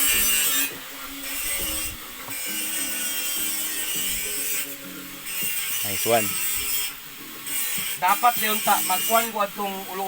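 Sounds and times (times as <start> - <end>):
brush scraping metal: 0.0 - 10.0.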